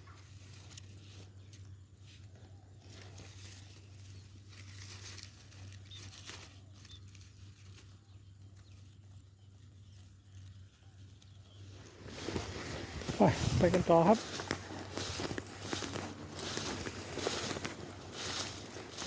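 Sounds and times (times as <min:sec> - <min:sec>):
grass rustling and crackling: 0:00.0 - 0:19.0
steady low hum: 0:00.0 - 0:19.0.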